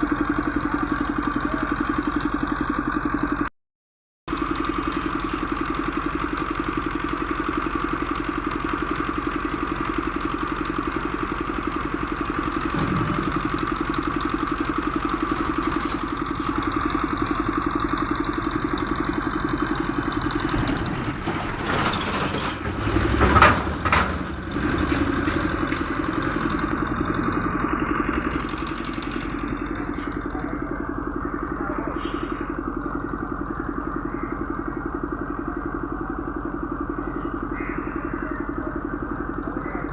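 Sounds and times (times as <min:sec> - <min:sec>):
engine idling: 0:00.0 - 0:03.5, 0:04.3 - 0:39.9.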